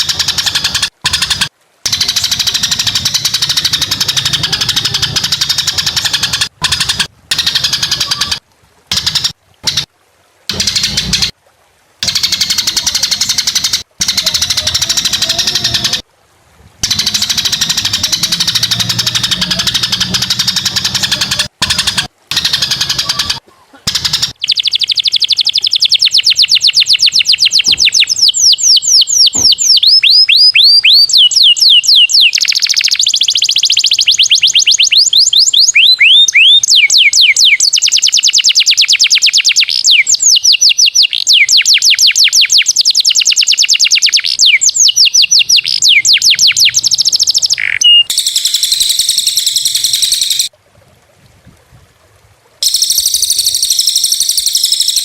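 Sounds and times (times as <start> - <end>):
songbird singing: 0.0 - 9.9, 12.0 - 16.0, 16.8 - 50.5, 52.6 - 55.0.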